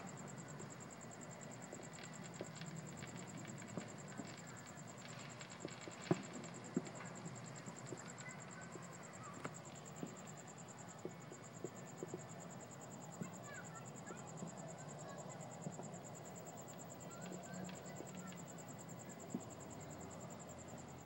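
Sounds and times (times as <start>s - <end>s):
cricket chirping: 0.0s - 21.0s
distant fireworks popping: 0.0s - 21.0s.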